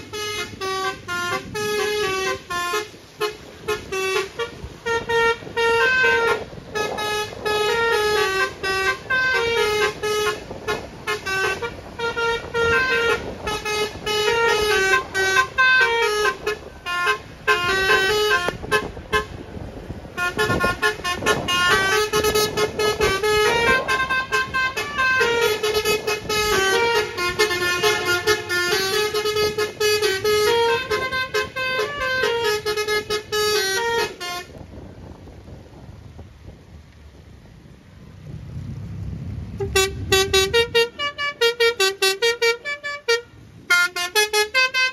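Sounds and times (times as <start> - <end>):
musical car horn playing tune: 0.0 - 19.5, 20.1 - 34.6, 39.6 - 44.9.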